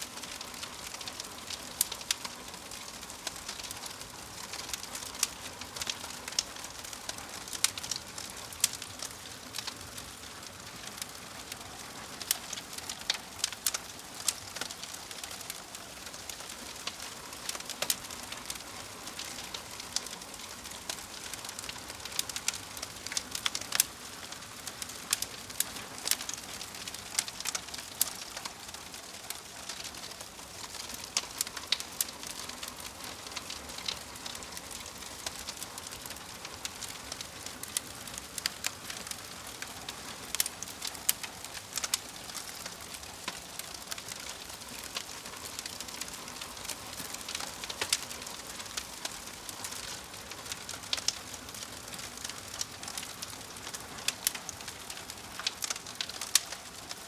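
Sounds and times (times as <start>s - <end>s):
soft fire hiss: 0.0s - 57.0s
wood fire crackling and popping: 0.0s - 57.0s.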